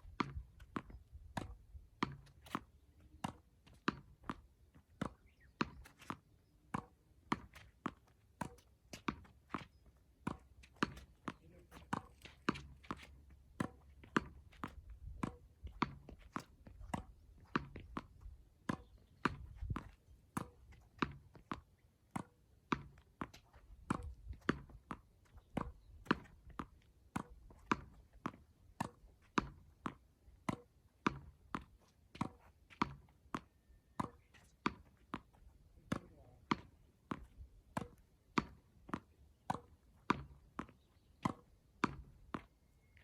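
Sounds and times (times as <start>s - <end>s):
tennis ball hit by rackets: 0.1s - 42.5s
ball bouncing on court: 0.2s - 42.5s.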